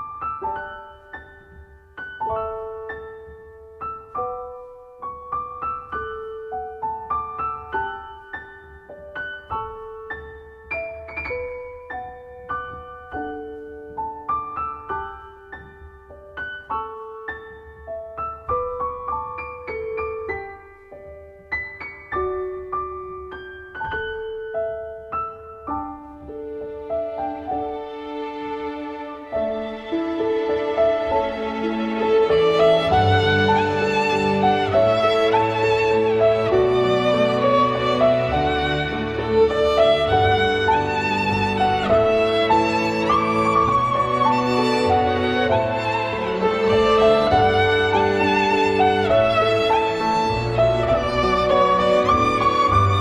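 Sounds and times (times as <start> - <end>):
slow piano piece: 0.0 - 53.0.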